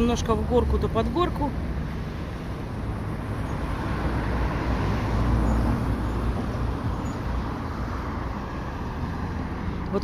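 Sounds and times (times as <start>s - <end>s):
vehicle passing with tyre hiss: 1.8s - 10.0s.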